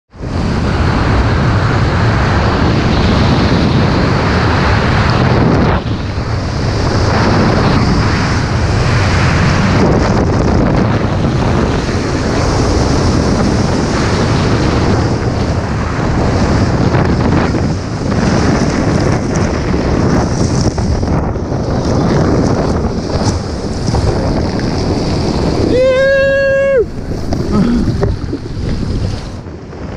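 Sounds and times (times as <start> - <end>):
wind rushing over microphone: 0.1 - 29.9.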